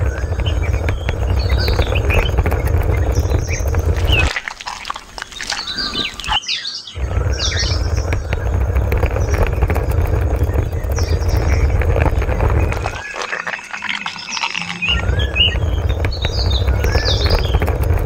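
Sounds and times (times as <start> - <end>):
steady low rumble: 0.0 - 6.4, 7.0 - 18.0
birds chirping: 0.0 - 18.0.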